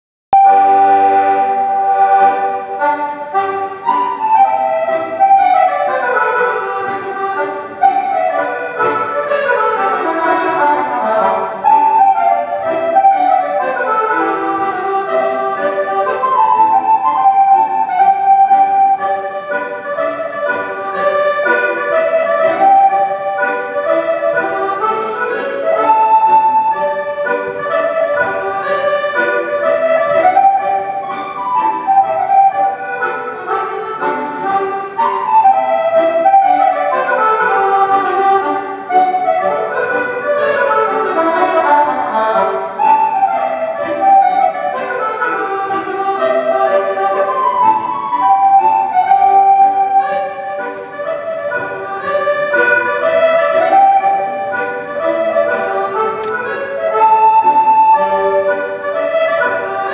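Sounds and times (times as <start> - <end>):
country dance music: 0.4 - 59.9.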